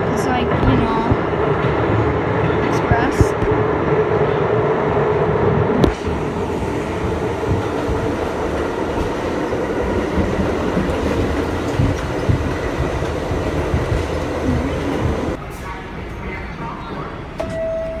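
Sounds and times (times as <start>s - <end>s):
subway car rumble and rail noise: 0.0s - 18.0s.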